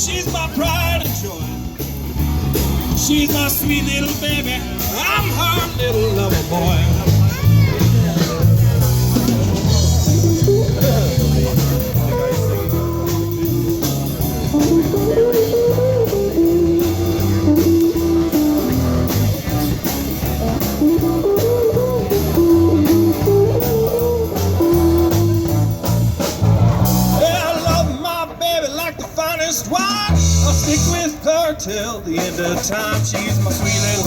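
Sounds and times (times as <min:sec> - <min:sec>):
bass and drums: 0:00.0 - 0:34.0
blues-rock electric guitar lead: 0:00.0 - 0:34.0.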